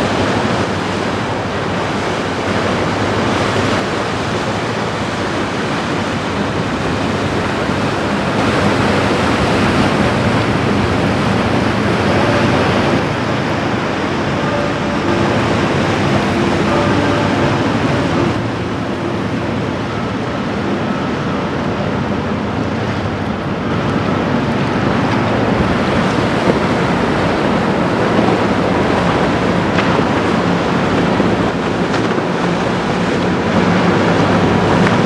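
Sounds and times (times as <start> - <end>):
bow wave rushing through water: 0.0 - 35.0
ship diesel engine hum: 0.0 - 35.0.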